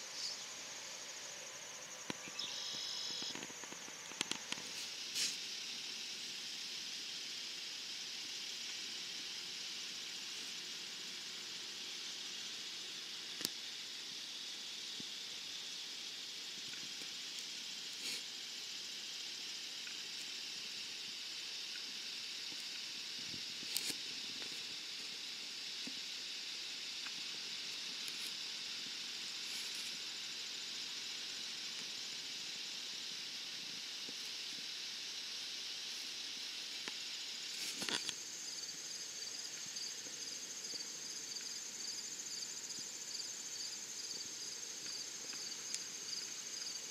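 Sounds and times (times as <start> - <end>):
crickets chirping: 0.0 - 46.9
pulsing cricket trill: 0.0 - 46.9.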